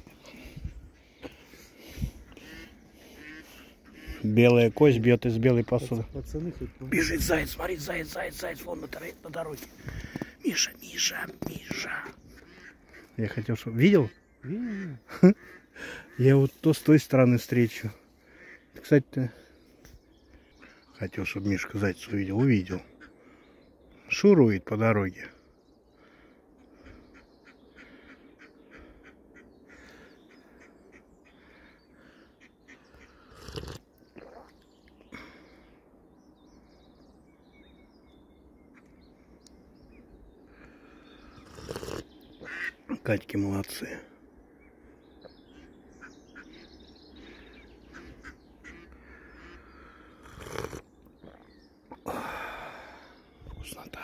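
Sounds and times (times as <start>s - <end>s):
distant ducks quacking: 0.0s - 24.2s, 25.3s - 34.5s, 38.6s - 50.4s.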